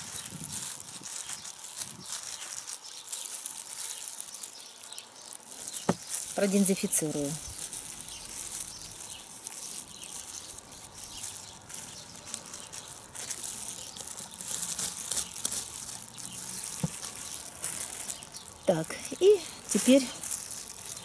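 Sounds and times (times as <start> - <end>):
plastic gloves crinkling: 0.0 - 21.0.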